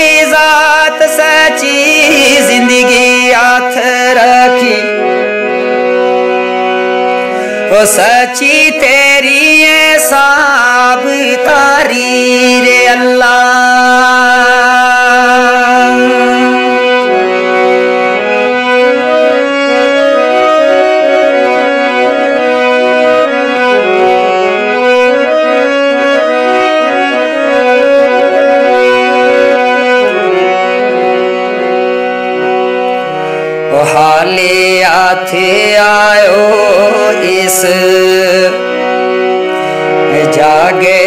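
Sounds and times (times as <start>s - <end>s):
keyboard melody over drone: 0.0s - 41.0s.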